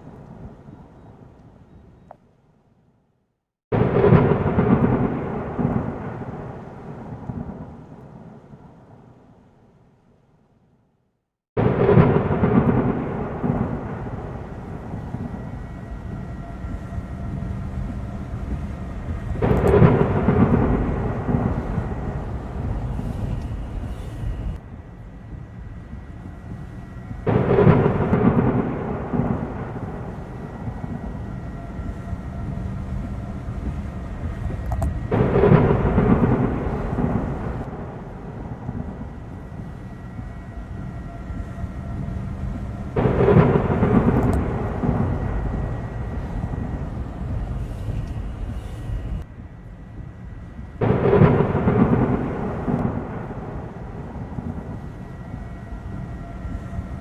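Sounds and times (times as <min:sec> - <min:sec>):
thunder claps: 0:03.7 - 0:09.3, 0:11.6 - 0:49.3, 0:50.0 - 0:57.0
steady low rumble: 0:03.7 - 0:10.2, 0:11.6 - 0:57.0.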